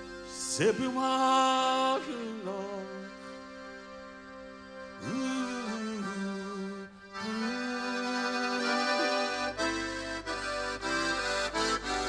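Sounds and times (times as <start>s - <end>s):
accordion chords: 0.0s - 12.0s.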